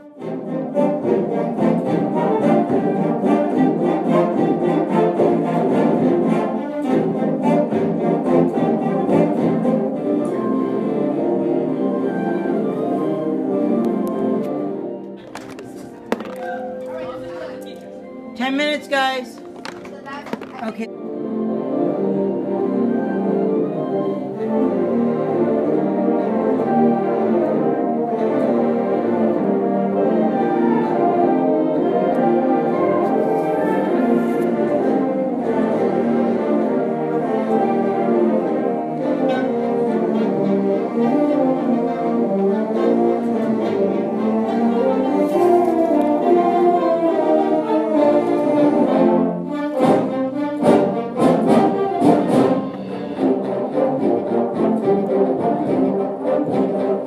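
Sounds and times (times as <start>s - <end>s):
orchestral music with brass: 0.0s - 57.0s.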